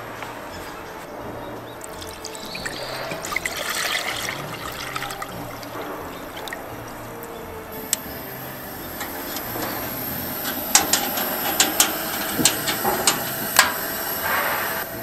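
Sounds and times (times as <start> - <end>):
steady high hiss: 1.7 - 15.0
cooking gear clinking metallically: 1.8 - 14.9.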